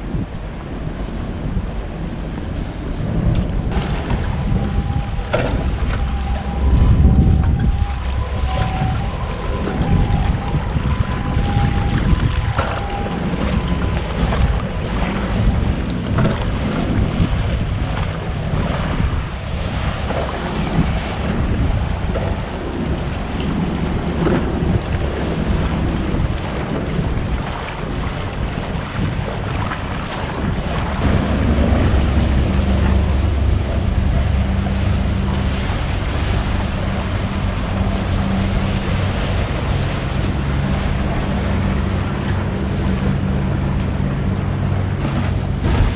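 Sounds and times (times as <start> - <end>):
low steady drone: 0.0 - 45.9
waves lapping on shore: 0.0 - 45.9
wind buffeting microphone: 0.0 - 45.9.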